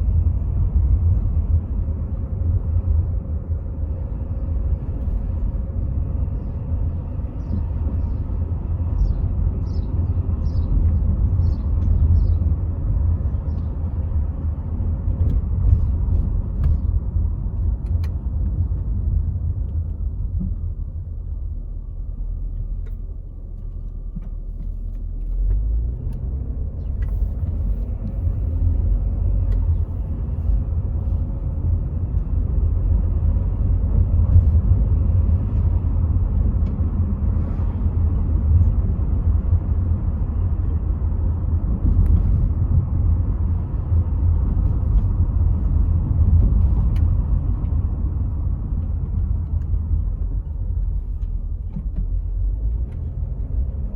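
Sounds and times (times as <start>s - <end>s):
car engine rumble: 0.0s - 53.9s
road noise: 0.0s - 53.9s.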